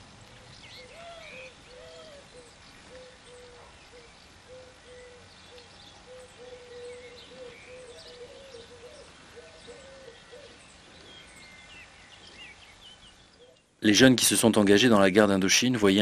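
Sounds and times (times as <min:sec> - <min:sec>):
small birds chirping: 0:00.2 - 0:14.3.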